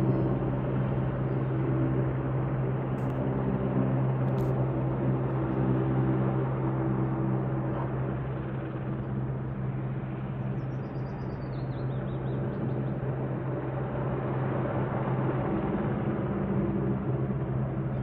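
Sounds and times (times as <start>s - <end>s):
helicopter rotor drone: 0.0s - 18.0s.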